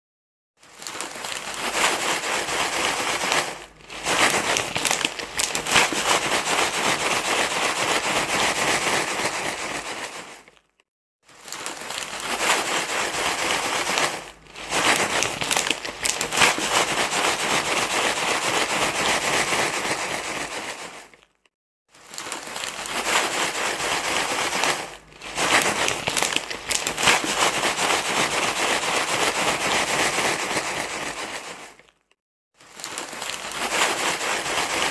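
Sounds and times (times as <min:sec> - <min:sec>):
crinkling and rustling material: 0:00.6 - 0:34.9.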